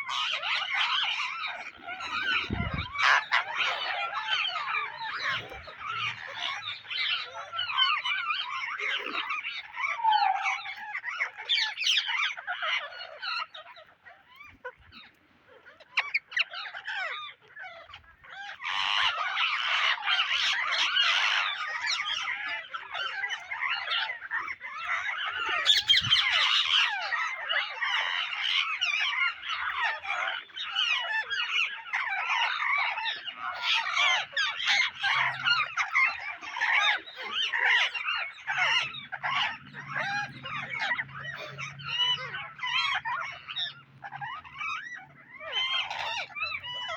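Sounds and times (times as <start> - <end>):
parakeets chattering and calling: 0.0 - 46.9.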